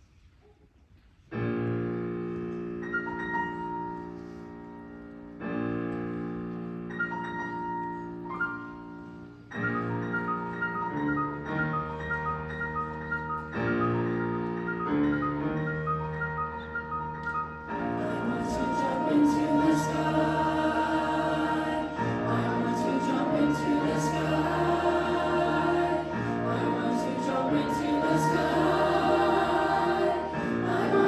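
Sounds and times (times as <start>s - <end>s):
piano chords ringing: 1.4s - 31.0s.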